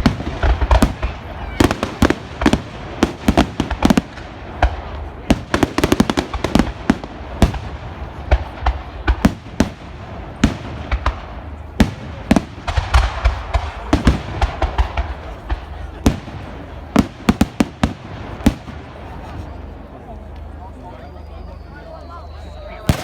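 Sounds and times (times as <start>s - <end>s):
fireworks bangs: 0.0s - 19.8s, 22.8s - 23.0s
fireworks crackling: 0.0s - 21.7s, 22.3s - 23.0s.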